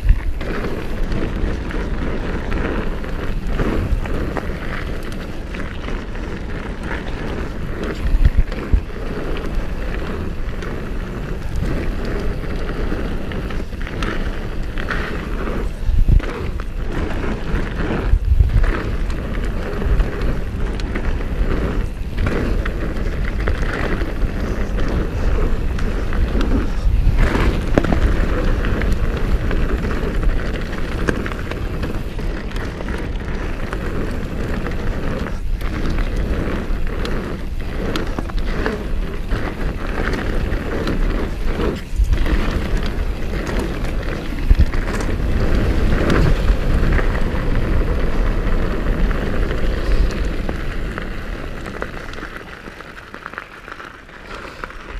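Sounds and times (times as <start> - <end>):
bike knocks and rattles over bumps: 0.0 - 54.9
bike tyres rolling on dirt: 0.0 - 54.9.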